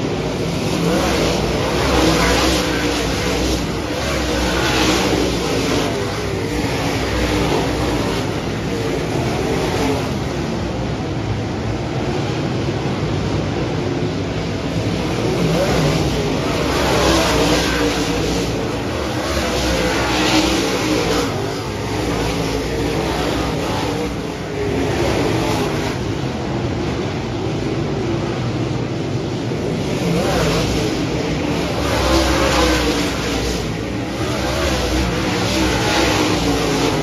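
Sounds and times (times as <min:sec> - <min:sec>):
race car engines roaring: 0:00.0 - 0:37.0.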